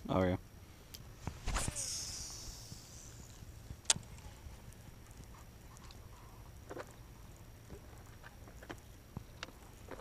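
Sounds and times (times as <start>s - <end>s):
low steady hum: 0.0s - 10.0s
faint ticks: 1.9s - 10.0s.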